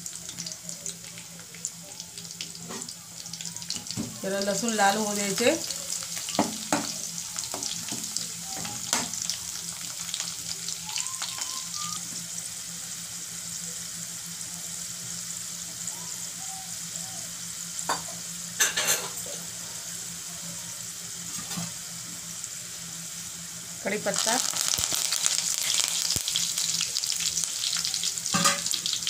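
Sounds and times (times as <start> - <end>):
garlic sizzling in hot oil: 0.0 - 29.0.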